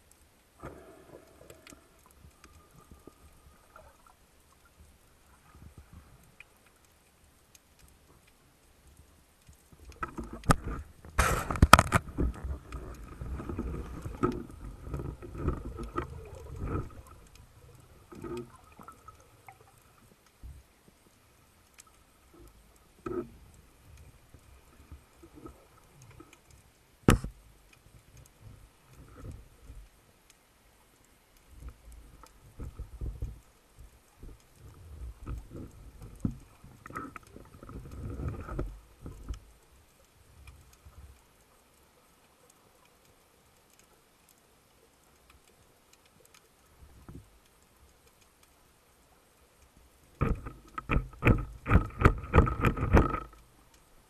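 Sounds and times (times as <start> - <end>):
underwater rustling: 0.0 - 54.0.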